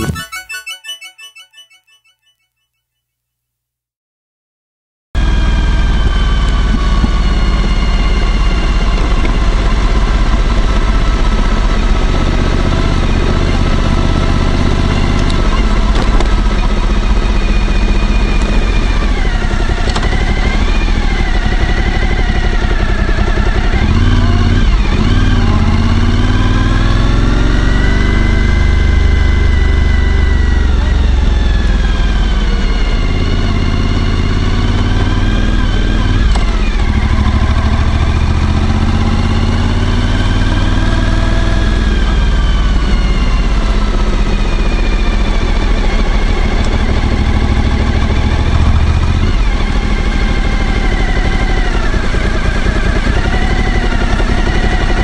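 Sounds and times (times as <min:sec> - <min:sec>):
motorcycle engine running: 0:05.2 - 0:55.0.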